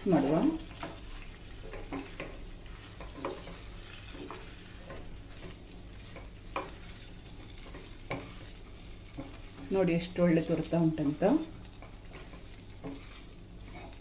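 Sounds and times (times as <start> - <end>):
oil sizzling: 0.0 - 14.0
spatula knocking and scraping pan: 0.7 - 9.8, 11.0 - 14.0.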